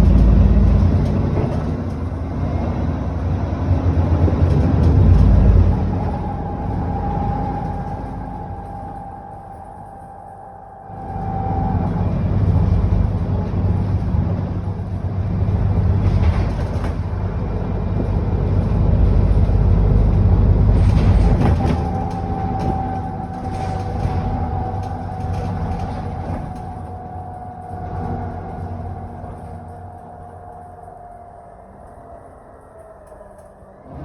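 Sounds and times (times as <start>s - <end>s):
bus diesel engine: 0.0s - 34.0s
steady whine: 4.9s - 34.0s.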